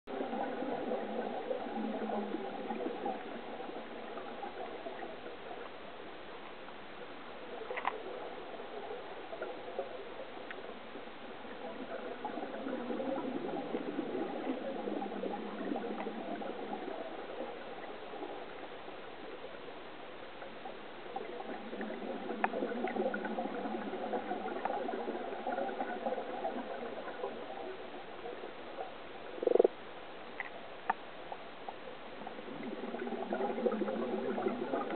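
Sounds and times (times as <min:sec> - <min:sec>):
underwater bubbles gurgling: 0:00.1 - 0:34.9.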